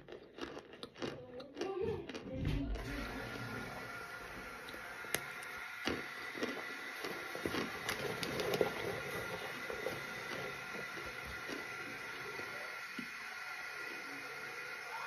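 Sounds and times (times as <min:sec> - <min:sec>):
person crunching cornstarch: 0:00.0 - 0:02.3, 0:04.4 - 0:14.3.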